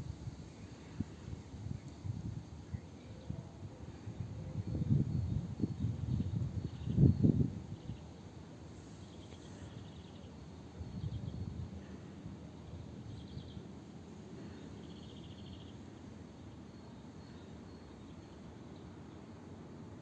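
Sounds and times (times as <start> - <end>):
insects chirping in trills: 0.0 - 20.0
outdoor background noise: 0.0 - 20.0.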